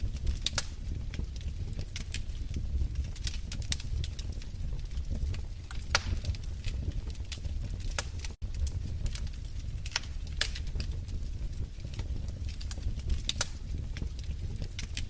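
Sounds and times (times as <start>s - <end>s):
fire pops and snaps: 0.0s - 15.0s
low rumble of burning: 0.0s - 15.0s.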